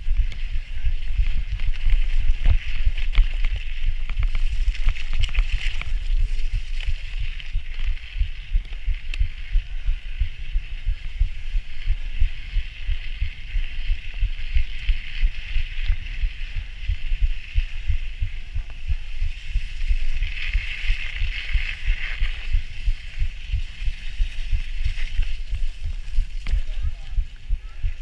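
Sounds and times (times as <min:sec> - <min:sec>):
steady high hiss: 0:00.0 - 0:28.0
wind buffeting microphone: 0:00.0 - 0:28.0.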